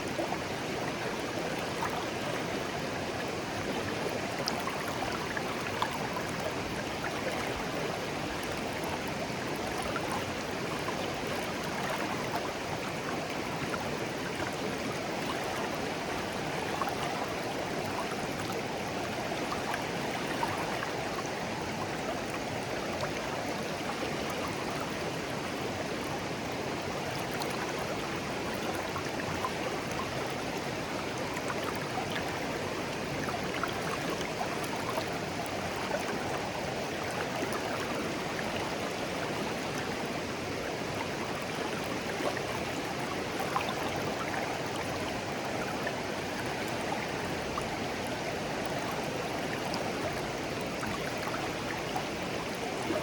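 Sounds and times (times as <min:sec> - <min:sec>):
stream babbling over stones: 0:00.2 - 0:53.0.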